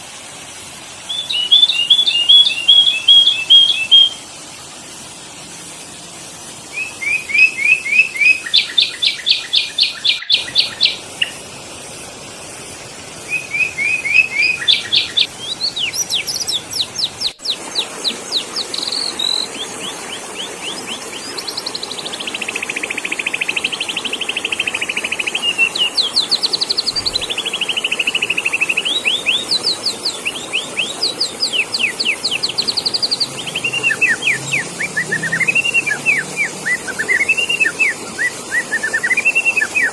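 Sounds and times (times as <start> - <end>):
bird calls and trills: 1.0 - 4.3, 6.6 - 11.5, 13.2 - 39.9.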